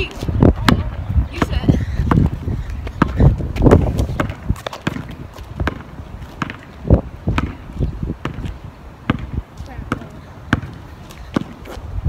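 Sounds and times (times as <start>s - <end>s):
basketball bouncing on asphalt: 0.0s - 12.0s.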